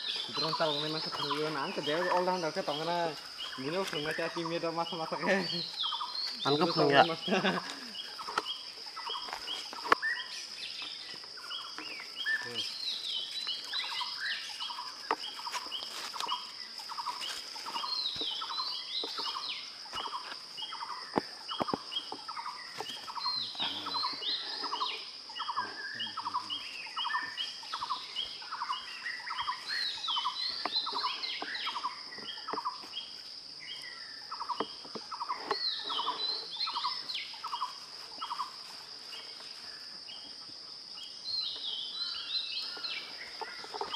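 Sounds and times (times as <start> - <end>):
high-pitched insect drone: 0.0 - 40.5
forest birds chirping: 0.0 - 43.9.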